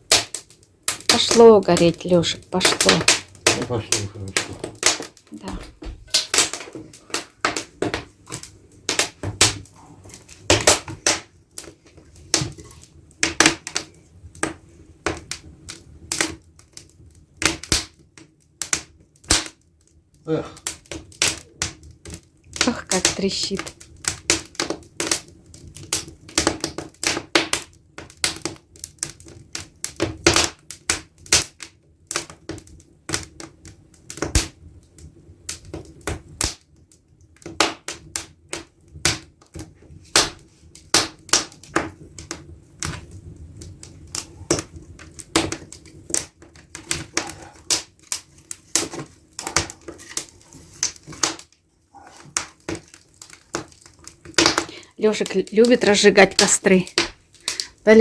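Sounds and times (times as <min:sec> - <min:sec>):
firewood crackling: 0:00.0 - 0:58.0.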